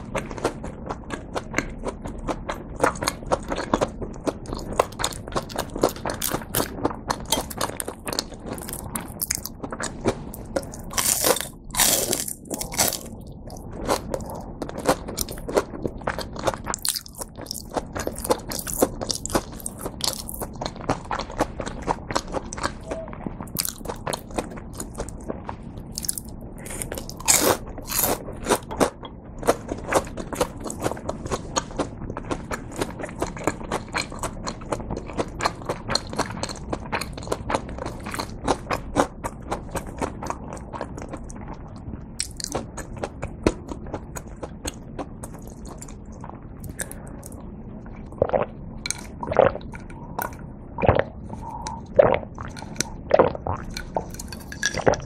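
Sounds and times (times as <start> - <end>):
crunching fried cutlet: 0.0 - 22.8, 23.4 - 47.4.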